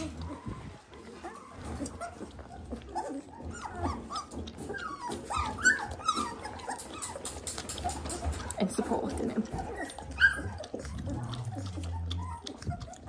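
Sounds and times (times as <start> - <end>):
puppies squeaking and whimpering: 0.0 - 13.0.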